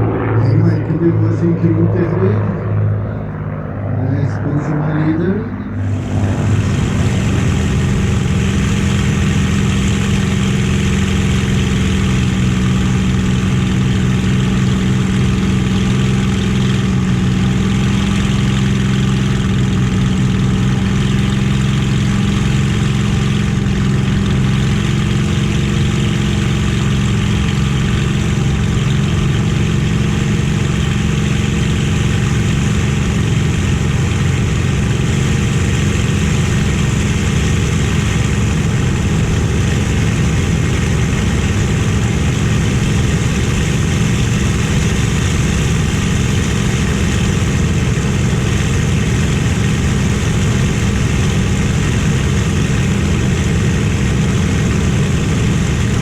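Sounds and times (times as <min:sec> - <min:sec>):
piston aircraft engine drone: 0:00.0 - 0:56.0.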